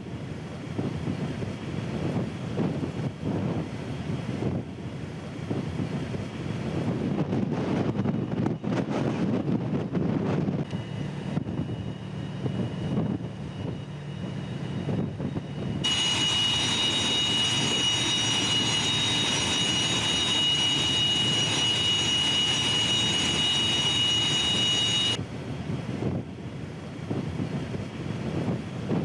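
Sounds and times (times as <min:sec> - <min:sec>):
high-pitched gas turbine whine: 0:00.0 - 0:29.0
rumbling engine: 0:00.0 - 0:29.0
wind noise: 0:00.0 - 0:29.0.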